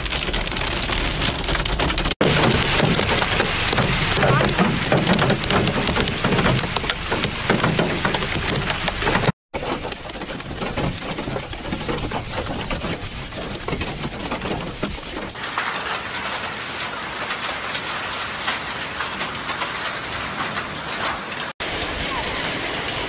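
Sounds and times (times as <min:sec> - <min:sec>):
heavy rain and hail falling: 0:00.0 - 0:23.0.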